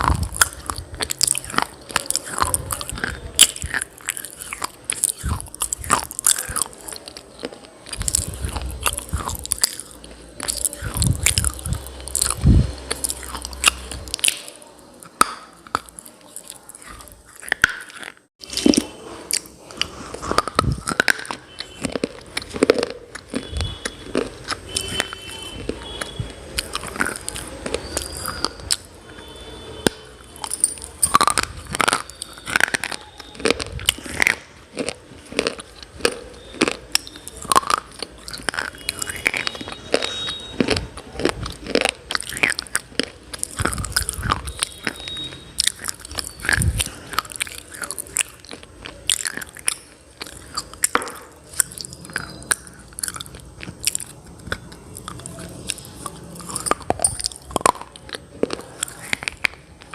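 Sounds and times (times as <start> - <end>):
person chewing crunchy pieces: 0.0 - 59.9.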